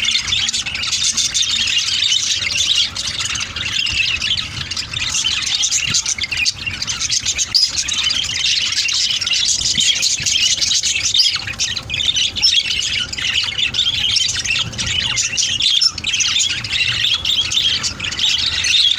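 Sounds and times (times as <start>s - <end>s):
parrots chattering and squawking: 0.0s - 18.9s.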